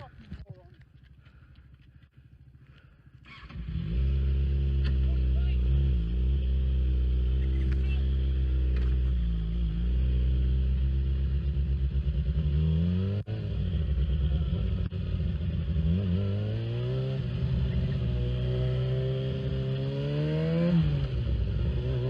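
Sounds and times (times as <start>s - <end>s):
motorcycle engine revving: 2.2s - 22.0s.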